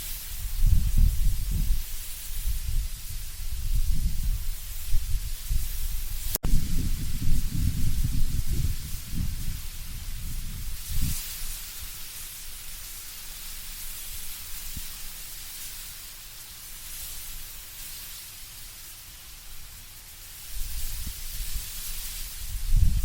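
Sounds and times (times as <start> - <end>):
low rumble of wind: 0.0 - 15.8, 19.4 - 23.0
leaves rustling in wind: 0.0 - 23.0.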